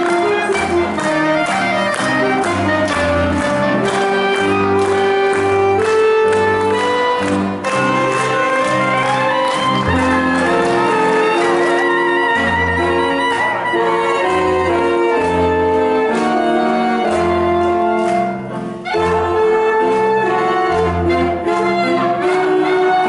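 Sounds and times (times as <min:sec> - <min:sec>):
woodwind ensemble dance tune: 0:00.0 - 0:23.0.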